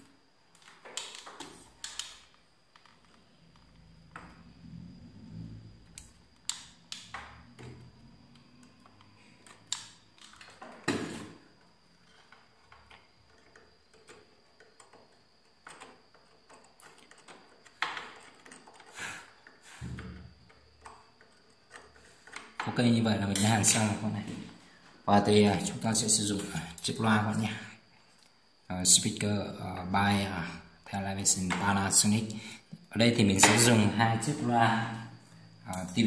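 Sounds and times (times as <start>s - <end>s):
faint high whine: 0.0s - 36.0s.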